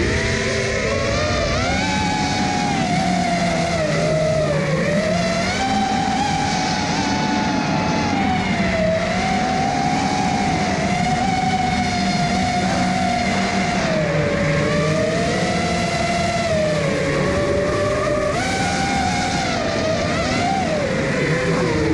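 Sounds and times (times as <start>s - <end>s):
quadcopter motors whining: 0.0s - 21.9s.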